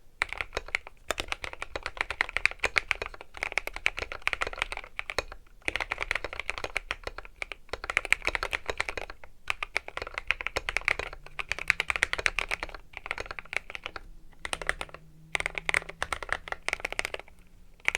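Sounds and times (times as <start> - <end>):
mechanical keyboard typing: 0.2 - 17.9.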